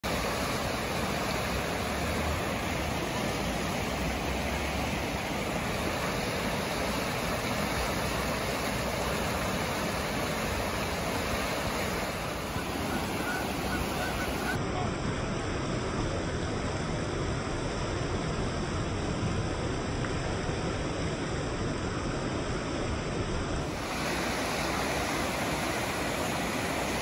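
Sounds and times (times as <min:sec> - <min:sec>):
river water rushing over rapids: 0:00.0 - 0:27.0.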